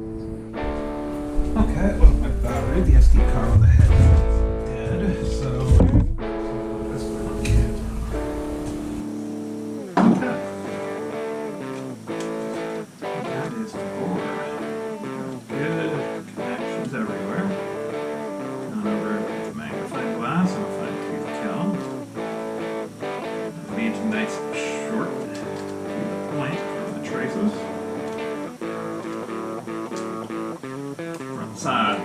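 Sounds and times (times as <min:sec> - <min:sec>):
guitar plucked notes and chords: 0:00.0 - 0:32.0
loud guitar strum: 0:00.0 - 0:32.0.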